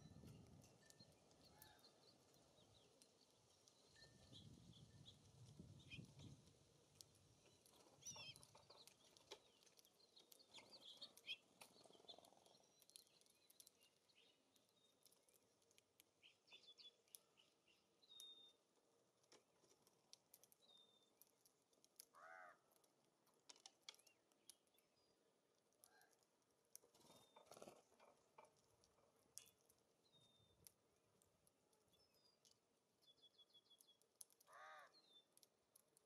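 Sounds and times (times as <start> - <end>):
birds clicking and tapping on feeder: 0.0 - 36.0.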